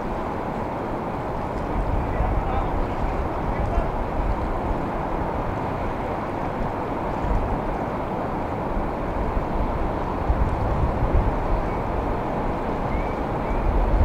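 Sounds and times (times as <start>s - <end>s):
ocean waves washing: 0.0s - 14.0s.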